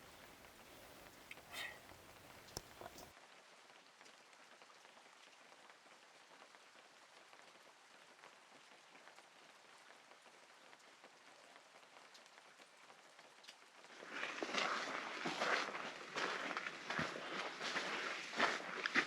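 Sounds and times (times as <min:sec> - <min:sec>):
light rain patter: 0:00.0 - 0:19.0.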